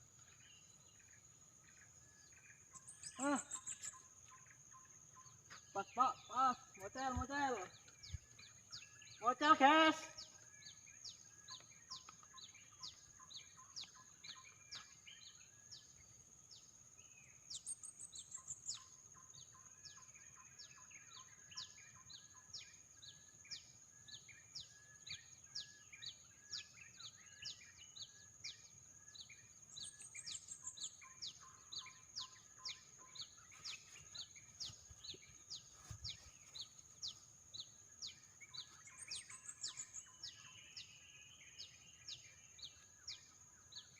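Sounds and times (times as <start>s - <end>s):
bird trill: 0.0s - 16.1s, 17.4s - 43.9s
birds chirping: 0.0s - 43.9s.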